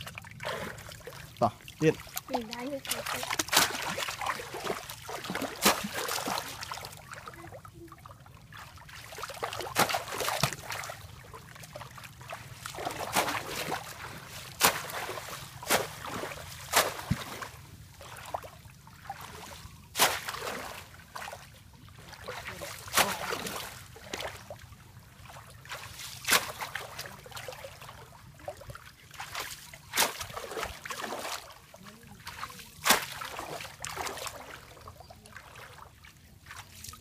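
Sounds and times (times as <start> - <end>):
sharp water splashes: 0.0 - 37.0
water sloshing: 0.0 - 37.0.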